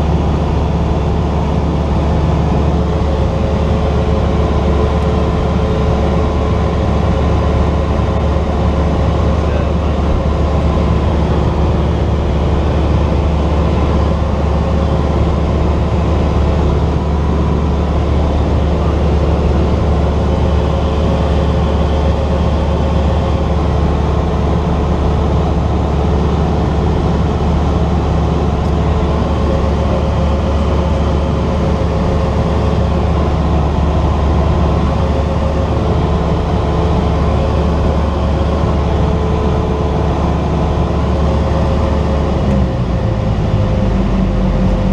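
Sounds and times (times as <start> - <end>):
propeller plane engine droning: 0.0 - 44.9.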